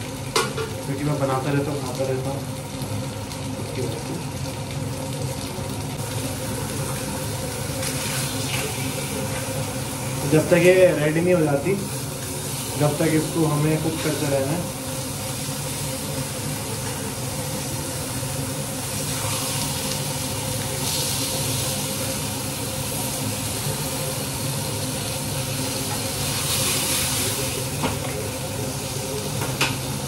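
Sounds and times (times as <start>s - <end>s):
fish frying in a pan: 0.0s - 30.0s.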